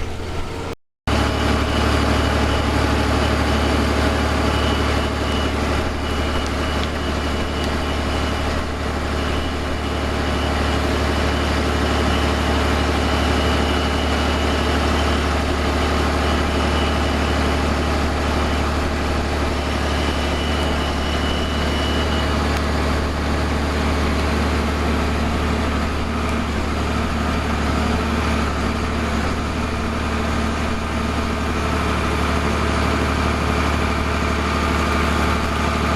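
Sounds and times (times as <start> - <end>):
diesel farm machinery humming: 0.0 - 35.9
thin high whine: 0.0 - 35.9.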